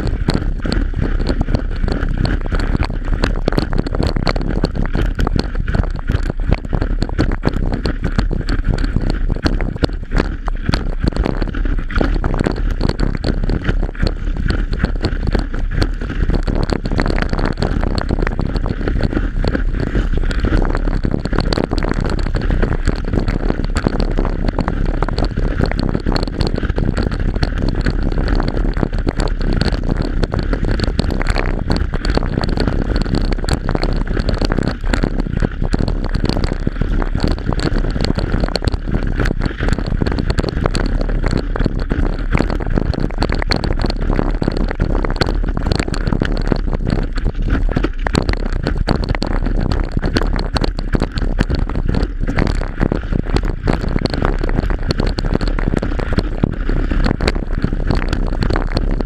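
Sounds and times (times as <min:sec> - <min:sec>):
rushing splashing water: 0:00.0 - 0:59.0
wind buffeting microphone: 0:00.0 - 0:59.0.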